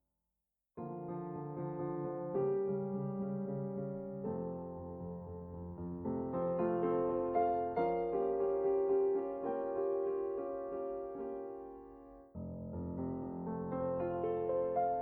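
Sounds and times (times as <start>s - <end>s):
solo piano music: 0.8s - 15.0s.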